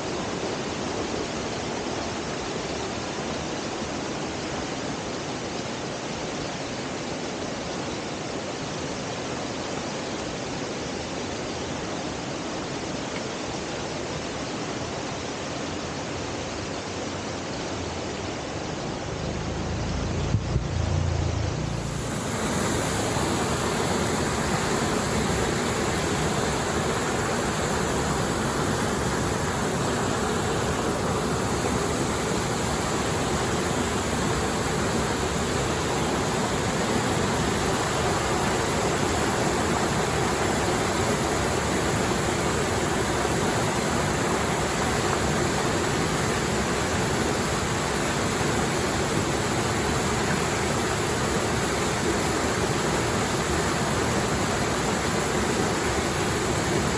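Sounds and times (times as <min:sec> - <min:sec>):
small waterfall rushing and splashing: 0:00.0 - 0:20.4, 0:21.5 - 0:56.9.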